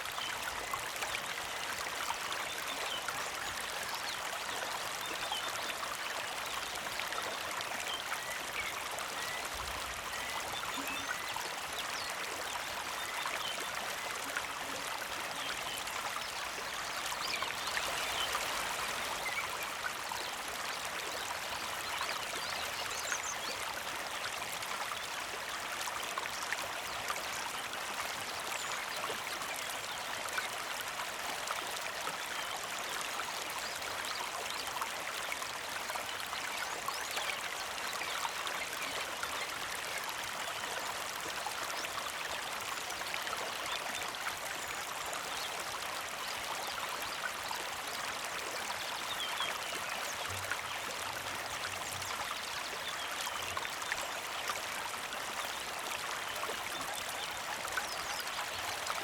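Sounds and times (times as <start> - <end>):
small creek trickling: 0.0 - 59.0.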